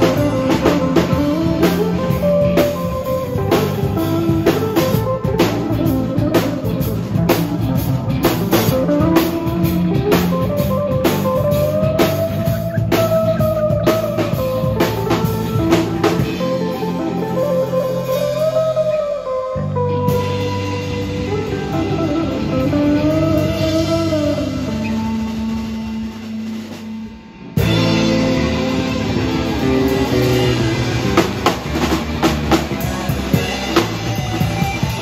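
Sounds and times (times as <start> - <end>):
drum kit: 0.0 - 35.0
electric bass: 0.0 - 35.0
electric guitar lead: 0.0 - 35.0.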